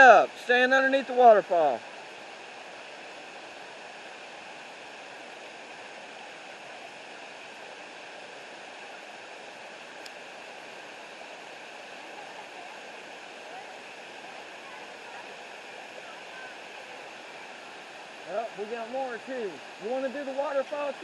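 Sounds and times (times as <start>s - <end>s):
waterfall and creek rushing: 0.0s - 21.0s.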